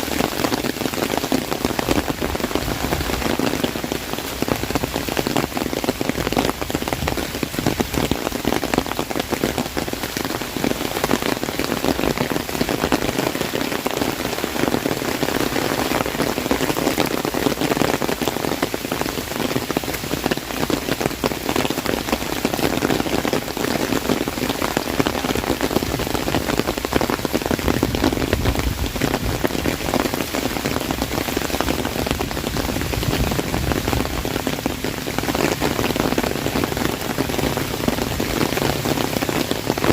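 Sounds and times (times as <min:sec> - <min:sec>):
heavy rain on umbrella: 0:00.0 - 0:39.9.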